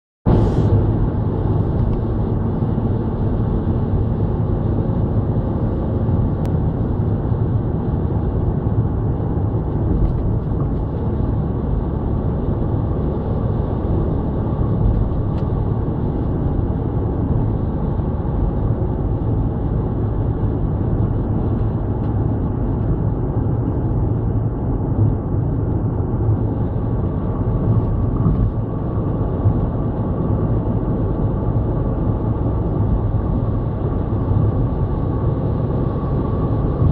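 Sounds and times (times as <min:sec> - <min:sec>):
car road noise: 0:00.3 - 0:36.9.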